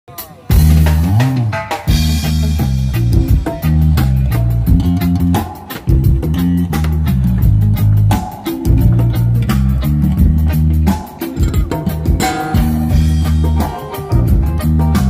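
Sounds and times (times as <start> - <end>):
drums: 0.0 - 15.0
bass line: 0.5 - 15.0
electronic percussion pads: 0.5 - 15.0.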